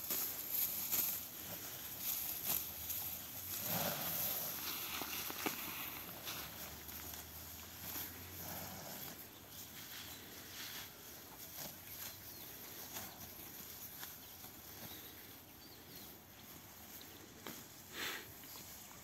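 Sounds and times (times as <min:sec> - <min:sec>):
cattle tearing grass: 0:00.0 - 0:15.3.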